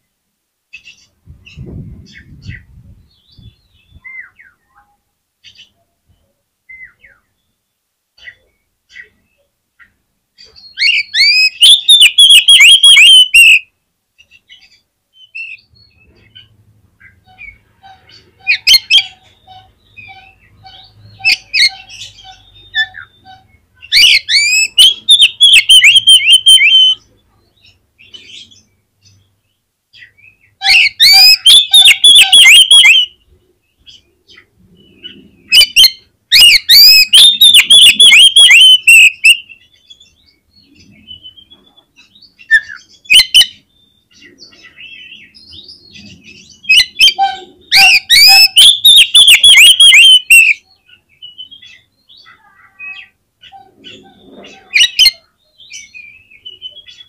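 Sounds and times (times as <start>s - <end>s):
bird singing whistled notes: 1.5s - 9.1s, 10.5s - 16.5s, 17.2s - 27.0s, 30.0s - 33.2s, 34.7s - 52.2s, 53.5s - 57.0s.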